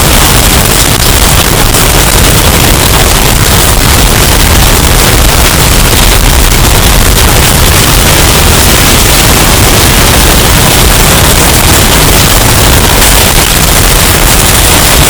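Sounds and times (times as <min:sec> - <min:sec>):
distorted booming wind noise: 0:00.0 - 0:15.0.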